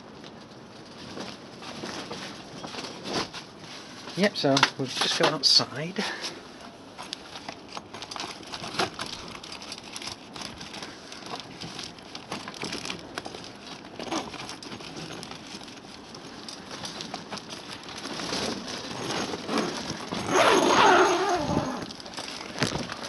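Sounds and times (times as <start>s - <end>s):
plastic cover crackling in wind: 0.0s - 23.0s.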